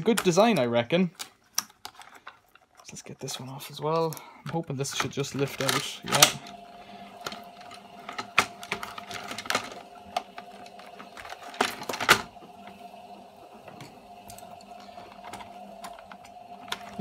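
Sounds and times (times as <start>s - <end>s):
washing machine humming: 3.0s - 17.0s.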